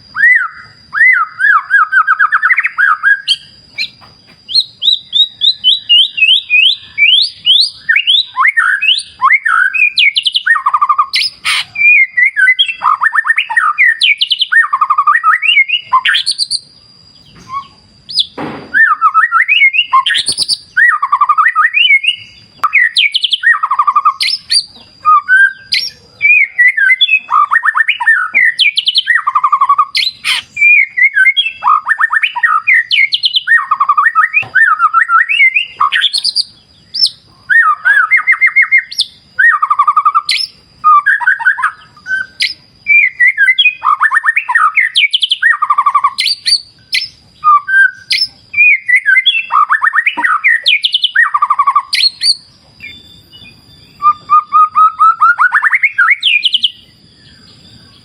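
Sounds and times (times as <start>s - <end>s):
bird singing whistled trills: 0.0s - 58.0s.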